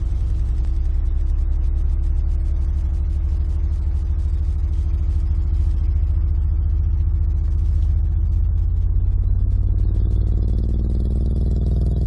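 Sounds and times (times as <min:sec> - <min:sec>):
subwoofer playing low test tone: 0:00.0 - 0:12.0.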